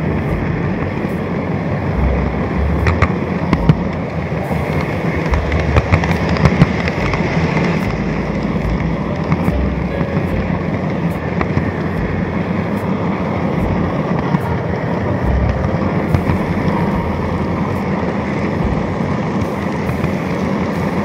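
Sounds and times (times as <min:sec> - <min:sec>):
model train rolling rumble: 0:00.0 - 0:21.0.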